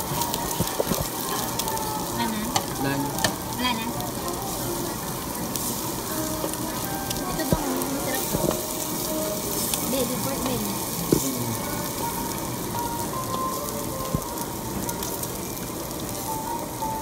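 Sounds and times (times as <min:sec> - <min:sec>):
meat sizzling on a grill: 0:00.0 - 0:17.0.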